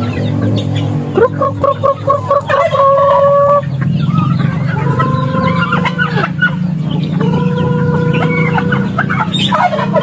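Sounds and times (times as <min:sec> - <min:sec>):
chickens clucking: 0:00.0 - 0:10.0
low steady hum: 0:00.0 - 0:10.0.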